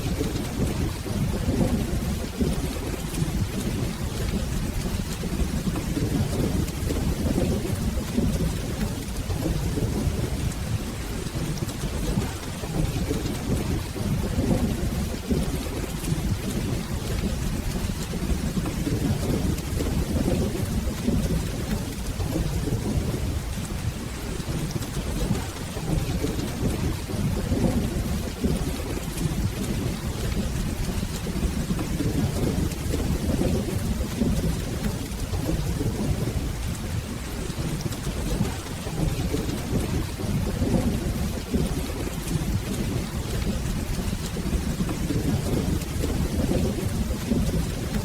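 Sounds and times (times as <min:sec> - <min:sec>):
rolling thunder: 0:00.0 - 0:48.0
steady rain: 0:00.0 - 0:48.0.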